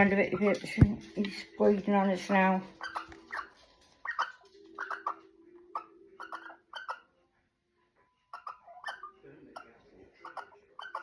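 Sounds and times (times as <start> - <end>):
owl clicking: 0.0 - 7.1, 8.3 - 11.0.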